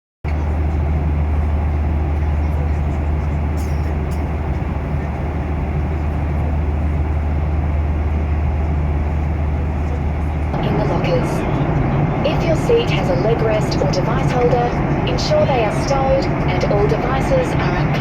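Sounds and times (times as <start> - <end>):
airplane engine hum: 0.2 - 18.0.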